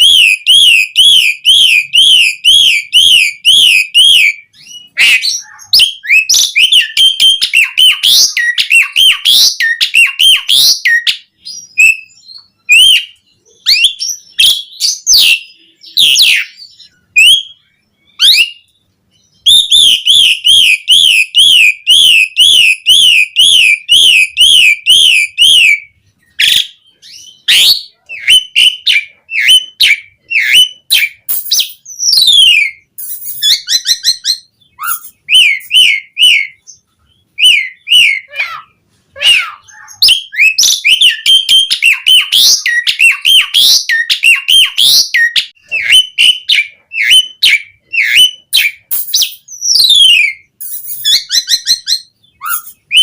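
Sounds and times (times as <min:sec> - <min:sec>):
bird chirps and rasping notes: 0:00.0 - 0:53.0
starling singing whistled trills: 0:00.0 - 0:53.0.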